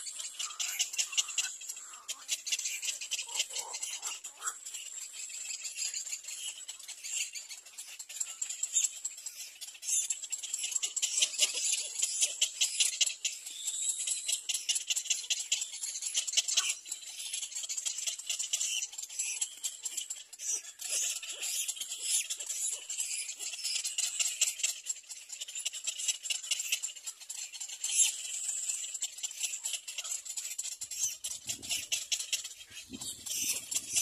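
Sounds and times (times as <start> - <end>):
birds chattering and squeaking: 0.0 - 34.0.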